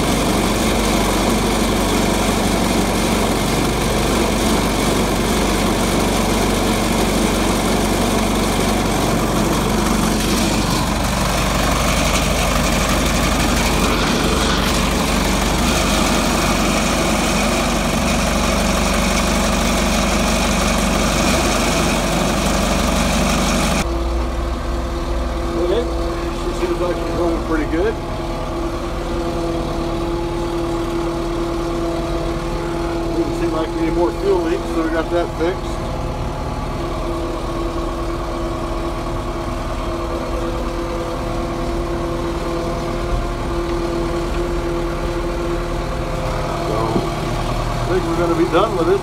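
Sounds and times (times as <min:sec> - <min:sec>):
diesel engine running steadily: 0:00.0 - 0:49.0.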